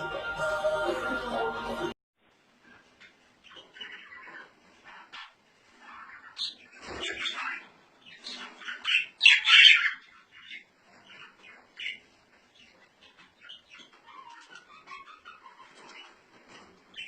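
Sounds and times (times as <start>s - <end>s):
songbirds chirping and singing: 3.0s - 17.0s.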